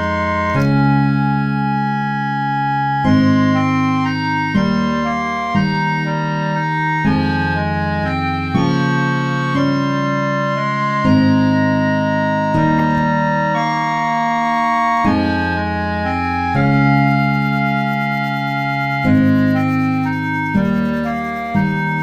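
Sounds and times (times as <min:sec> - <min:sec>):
organ-like keyboard chords: 0:00.0 - 0:22.0.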